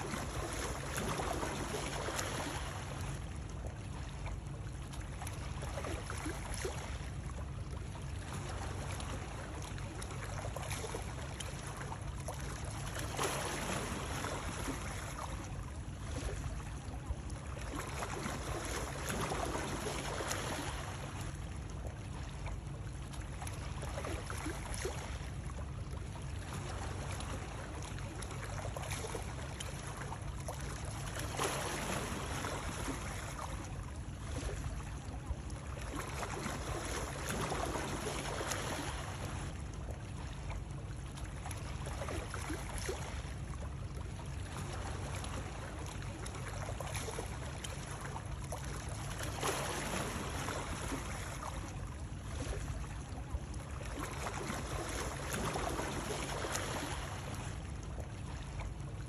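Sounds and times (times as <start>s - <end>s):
water rushing and splashing: 0.0s - 59.0s.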